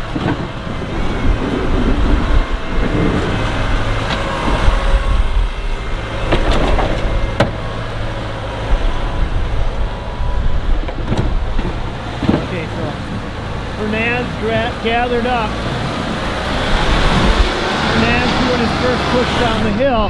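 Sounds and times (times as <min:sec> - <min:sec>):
snow plow knocking and scraping: 0:00.0 - 0:20.0
tractor diesel engine running: 0:00.0 - 0:20.0.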